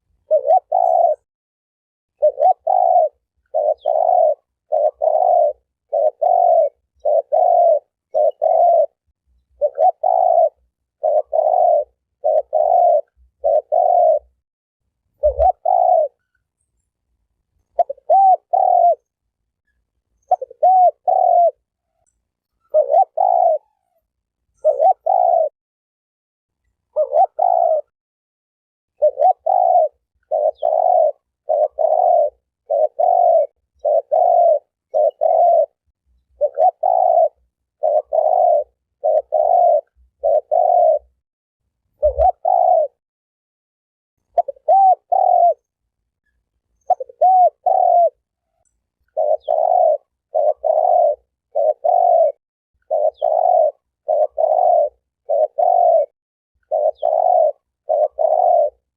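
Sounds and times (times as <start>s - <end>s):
dove cooing: 0.0s - 1.3s, 2.1s - 14.4s, 15.2s - 16.4s, 17.7s - 19.2s, 20.2s - 25.6s, 26.8s - 27.9s, 29.0s - 41.2s, 42.0s - 43.0s, 44.2s - 45.7s, 46.8s - 58.9s.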